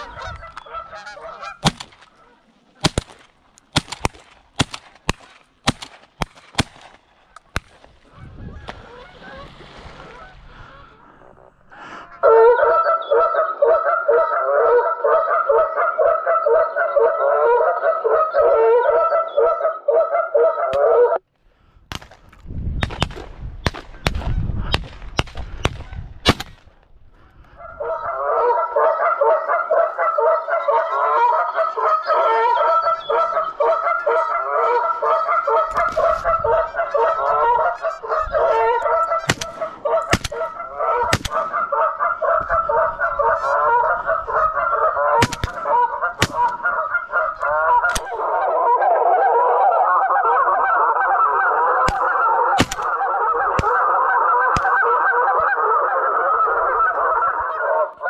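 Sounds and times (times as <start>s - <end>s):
geese honking: 0.0s - 3.6s, 7.2s - 21.2s, 27.4s - 58.0s.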